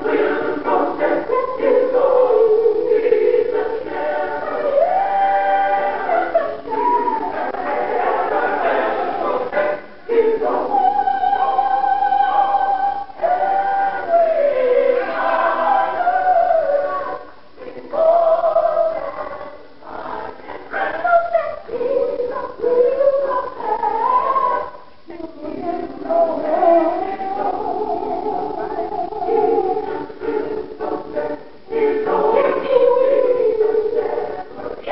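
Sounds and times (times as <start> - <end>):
gospel choir singing: 0.0 - 34.9.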